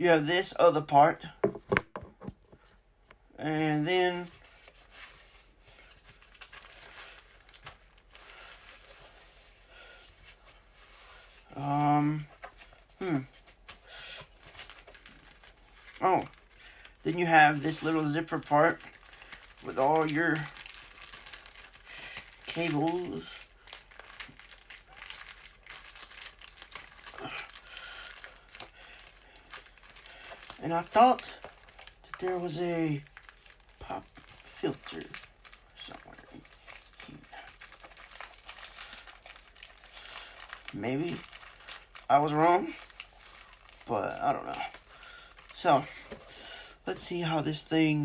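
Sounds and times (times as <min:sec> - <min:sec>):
packaging rustling and crinkling: 0:04.0 - 0:47.9.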